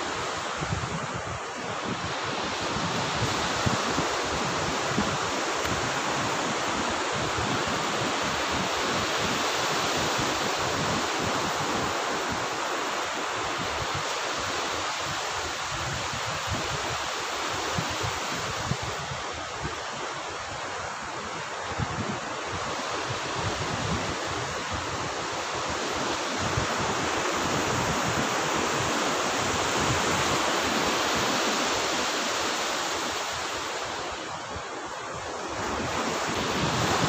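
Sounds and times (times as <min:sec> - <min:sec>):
waves breaking on sandy beach: 0:00.0 - 0:37.0.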